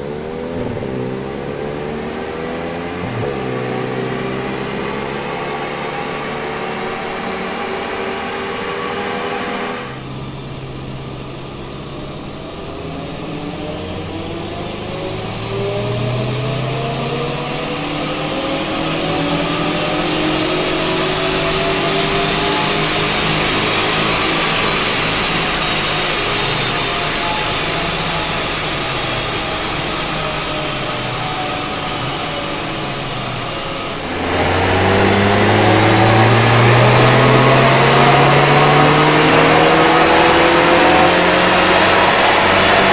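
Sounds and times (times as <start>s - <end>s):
car engine running at speed: 0.0s - 42.9s.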